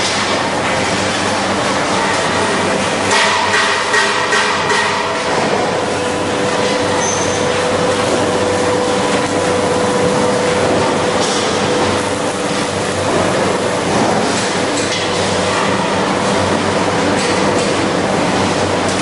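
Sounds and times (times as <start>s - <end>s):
industrial machine hiss and rumble: 0.0s - 19.0s.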